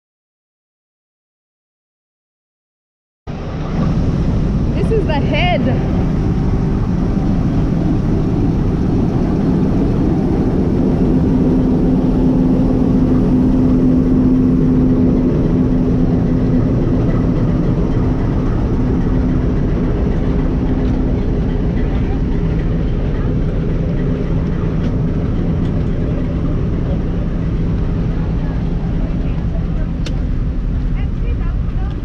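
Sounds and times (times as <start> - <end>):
diesel locomotive rumble: 3.3 - 32.0
steady hum: 3.3 - 32.0.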